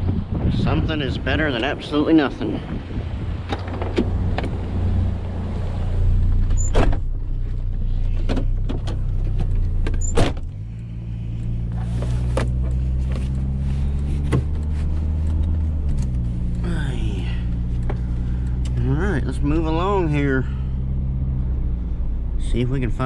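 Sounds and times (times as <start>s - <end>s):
truck engine humming: 3.1s - 23.0s.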